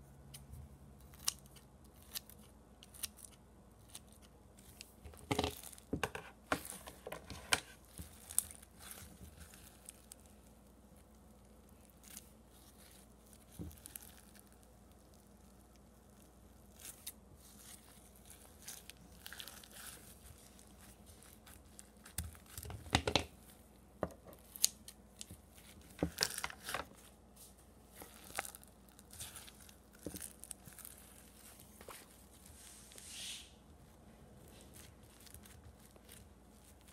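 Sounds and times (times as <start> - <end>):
slime crackling and tearing: 1.0 - 5.9, 7.4 - 27.0, 27.8 - 32.3, 34.4 - 36.9.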